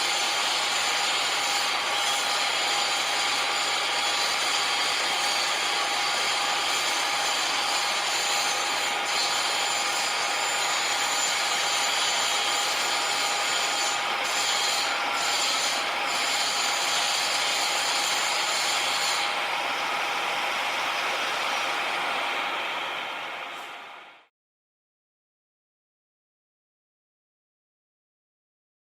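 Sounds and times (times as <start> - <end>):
workshop machines running: 0.0 - 24.3.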